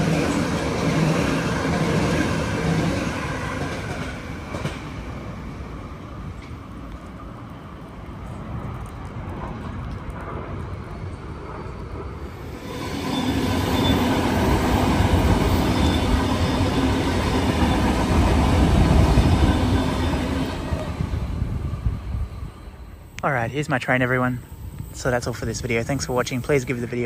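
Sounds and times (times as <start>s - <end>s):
train wheel and rail rumble: 0.0s - 27.0s.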